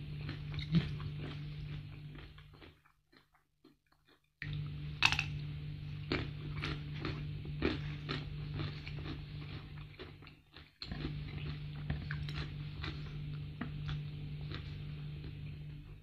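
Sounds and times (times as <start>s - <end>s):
steady low hum: 0.0s - 2.7s, 4.4s - 16.0s
person chewing leafy greens: 0.0s - 16.0s.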